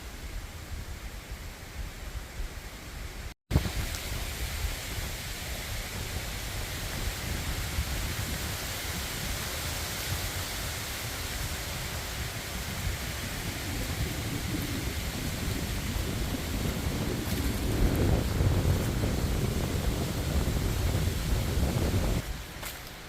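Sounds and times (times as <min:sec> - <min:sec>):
wind buffeting microphone: 0:03.5 - 0:22.6.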